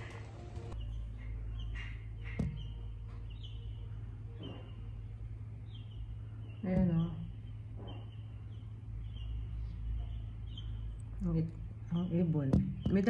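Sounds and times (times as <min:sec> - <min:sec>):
birds chirping faintly: 0:00.0 - 0:13.0
steady low hum: 0:00.0 - 0:13.0.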